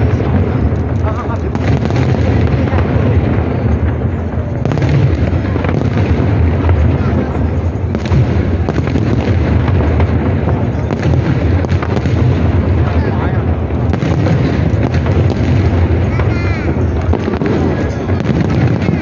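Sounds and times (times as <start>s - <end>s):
crowd voices: 0.0s - 19.0s
fireworks booming and popping: 0.0s - 19.0s.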